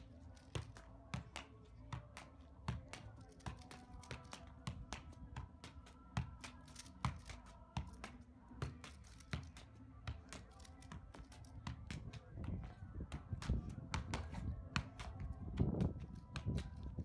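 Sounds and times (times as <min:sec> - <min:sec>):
football soft thuds: 0:00.5 - 0:17.0.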